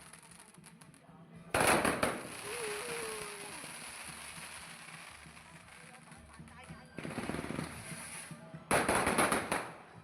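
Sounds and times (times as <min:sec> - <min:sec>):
fireworks crackle: 0:00.0 - 0:01.0, 0:01.6 - 0:09.7.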